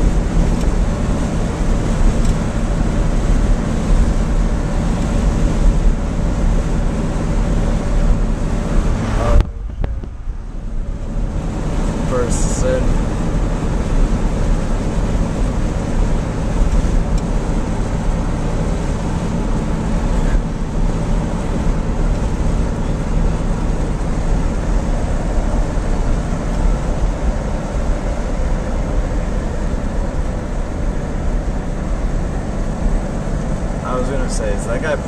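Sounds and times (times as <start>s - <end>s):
car wind and road noise: 0.0s - 35.0s.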